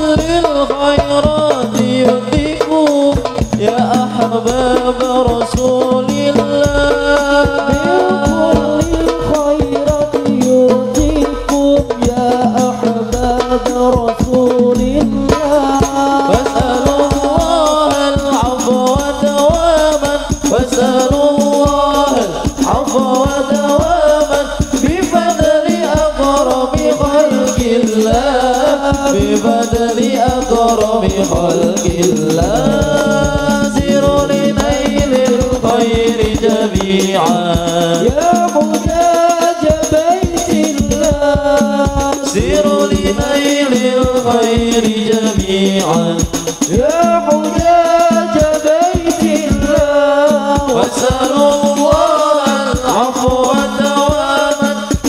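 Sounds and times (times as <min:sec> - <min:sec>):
frame drums beating: 0:00.0 - 0:55.0
men singing through microphones: 0:00.0 - 0:55.0.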